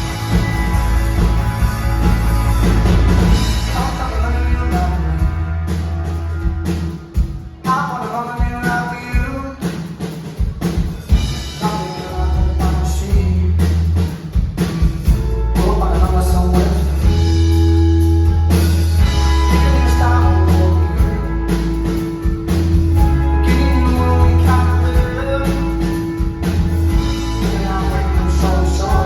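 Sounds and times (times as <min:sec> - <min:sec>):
bass guitar line: 0:00.0 - 0:07.7, 0:11.1 - 0:29.0
drum kit: 0:00.0 - 0:29.0
guitar: 0:00.0 - 0:29.0.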